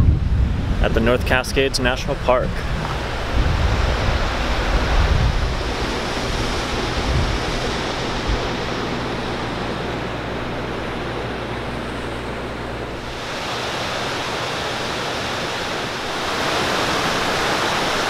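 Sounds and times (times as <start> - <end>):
wind buffeting microphone: 0.0 - 18.0
flowing water: 1.8 - 18.0.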